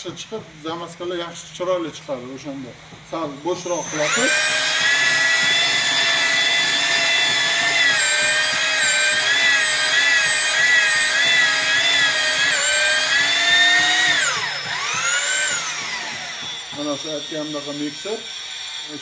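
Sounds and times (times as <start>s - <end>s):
electric drill-mixer whirring: 2.8s - 19.0s.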